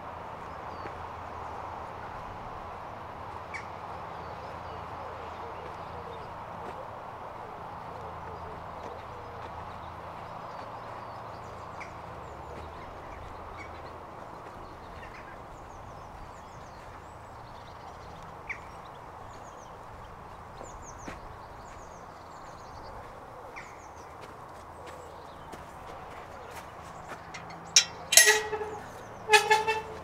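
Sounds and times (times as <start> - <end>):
small birds chirping faintly: 0.0 - 30.0.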